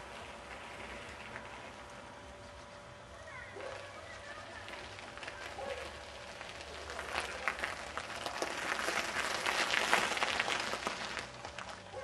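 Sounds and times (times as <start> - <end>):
bicycle tyres crunching gravel: 0.0 - 12.0.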